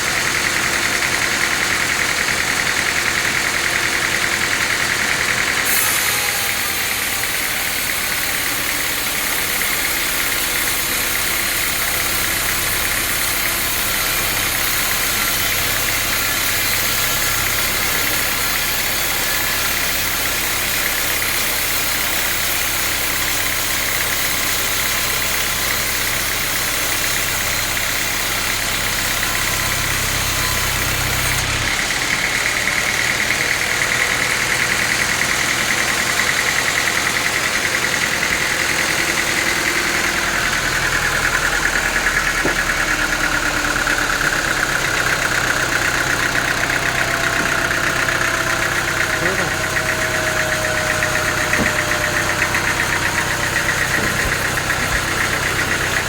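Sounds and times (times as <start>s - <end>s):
sawmill saw cutting wood: 0.0s - 56.0s.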